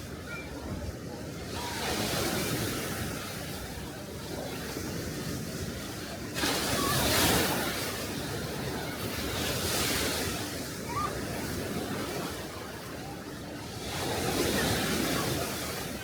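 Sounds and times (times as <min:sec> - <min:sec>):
sea waves washing up shore: 0:00.0 - 0:16.0.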